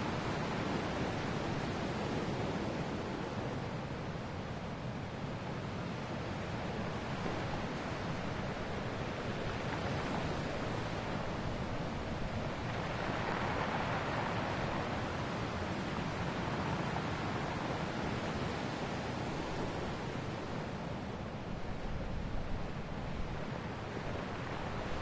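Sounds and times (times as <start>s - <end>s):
ocean waves washing ashore: 0.0s - 25.0s.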